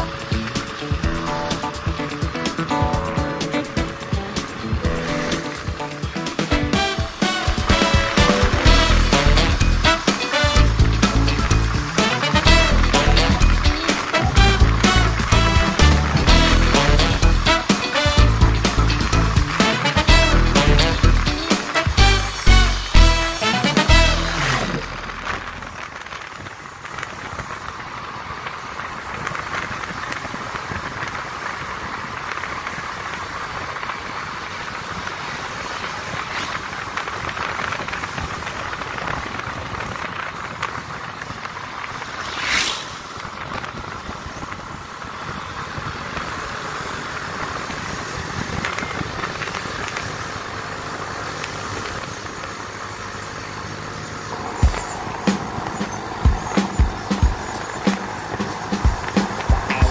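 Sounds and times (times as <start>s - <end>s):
motorcycle riding noise: 0.0s - 59.9s.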